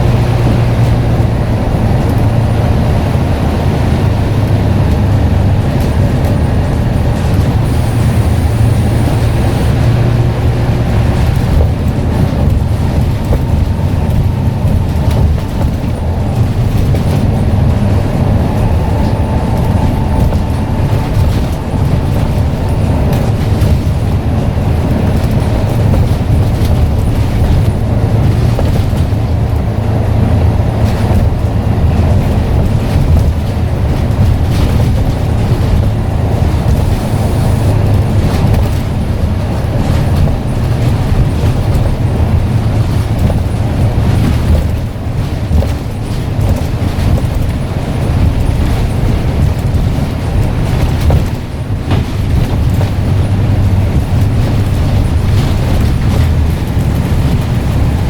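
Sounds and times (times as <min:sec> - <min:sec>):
bus engine droning: 0:00.0 - 0:58.0
road noise: 0:00.0 - 0:58.0.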